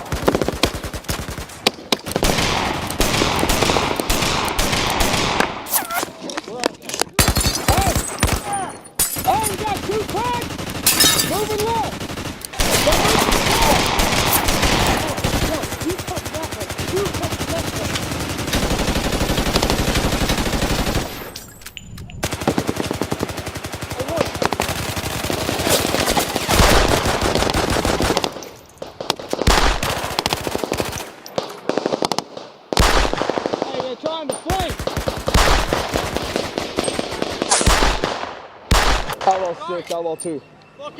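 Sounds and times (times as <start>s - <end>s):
machine-gun fire: 0.0s - 5.7s, 9.3s - 21.2s, 22.2s - 39.3s.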